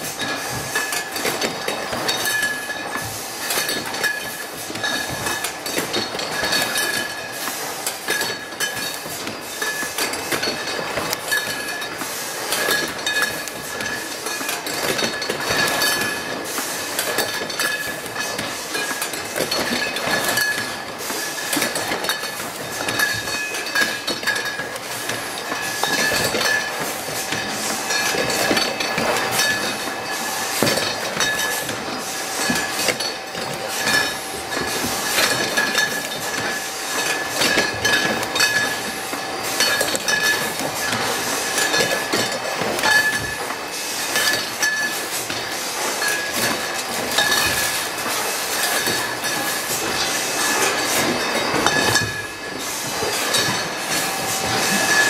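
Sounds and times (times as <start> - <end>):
glass bottles clinking: 0.0 - 55.0
machine mechanical clatter: 0.0 - 55.0.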